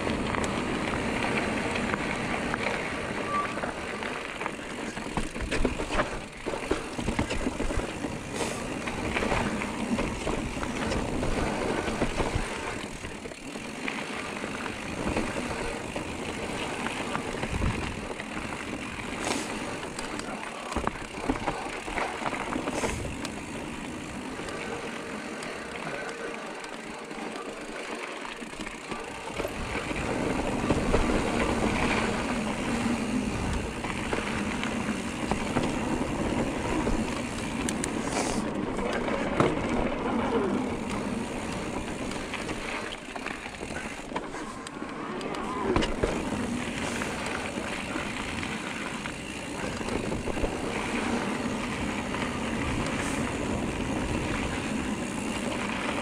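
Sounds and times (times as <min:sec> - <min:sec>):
tyre and wind noise: 0:00.0 - 0:26.9, 0:27.5 - 0:56.0
bike rattling over bumps: 0:00.0 - 0:56.0.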